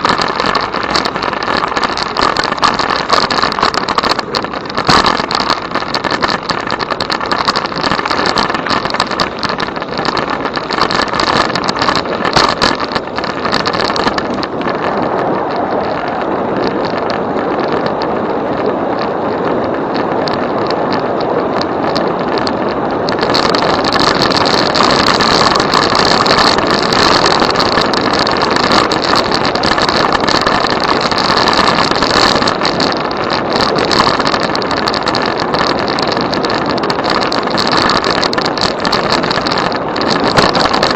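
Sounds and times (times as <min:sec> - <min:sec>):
tyre noise: 0:00.0 - 0:40.9
wind on microphone: 0:00.0 - 0:40.9.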